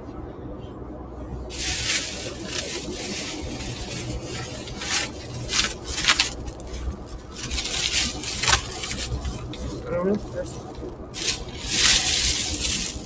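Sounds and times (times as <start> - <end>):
plastic bag rustling: 1.5 - 13.0.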